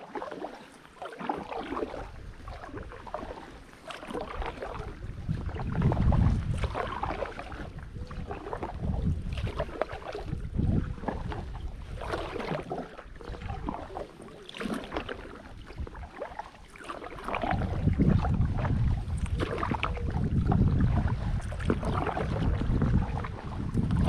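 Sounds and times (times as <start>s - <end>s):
kayak paddle splashing: 0.0s - 24.0s
wind rumble on microphone: 1.7s - 24.0s.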